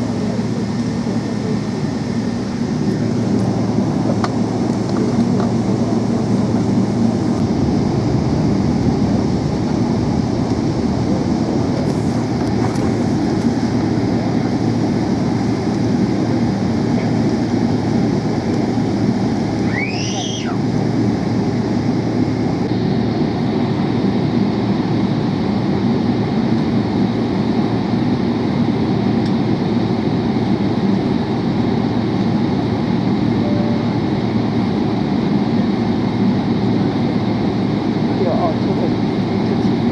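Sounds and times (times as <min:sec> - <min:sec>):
rising whine: 0:00.0 - 0:38.1
airliner cabin engine rumble: 0:00.0 - 0:39.9.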